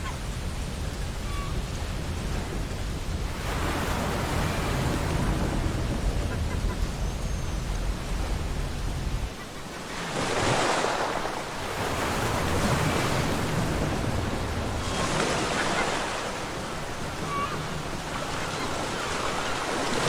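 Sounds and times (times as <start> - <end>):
wind rumble on microphone: 0.0 - 9.8, 11.3 - 20.0
ocean waves breaking: 0.0 - 20.0.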